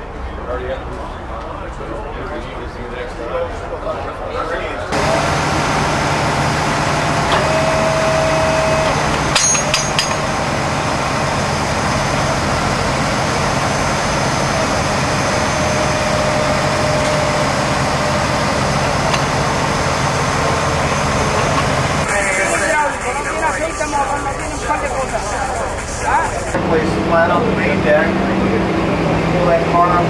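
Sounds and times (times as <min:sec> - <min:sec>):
hydraulic power unit hum: 0:04.9 - 0:30.0
hydraulic whine: 0:04.9 - 0:30.0.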